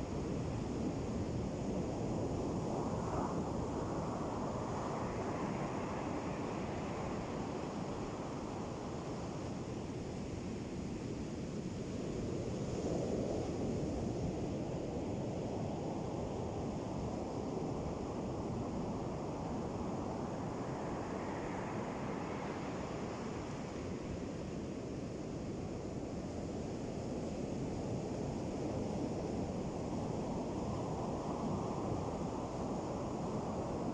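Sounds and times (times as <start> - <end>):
wind noise on microphone: 0.0 - 33.9.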